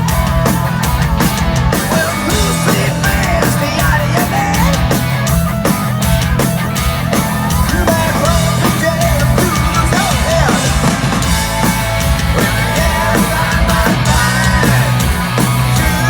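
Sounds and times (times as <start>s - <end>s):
drums pounding a steady beat: 0.0s - 16.0s
punk rock band playing live: 0.0s - 16.0s.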